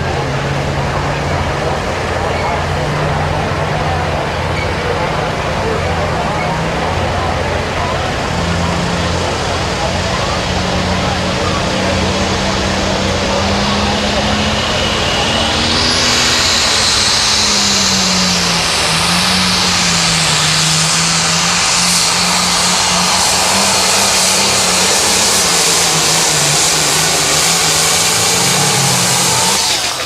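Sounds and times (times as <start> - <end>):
diesel tractor engine at full throttle: 0.0 - 30.0.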